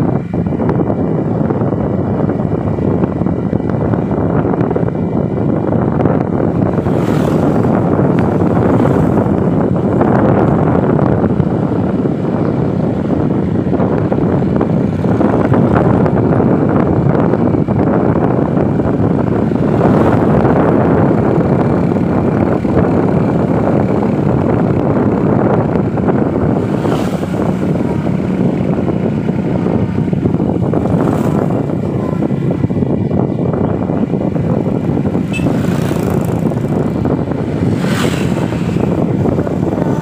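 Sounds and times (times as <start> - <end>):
vehicle running noise: 0.0 - 40.0
wind rush on microphone: 0.0 - 40.0.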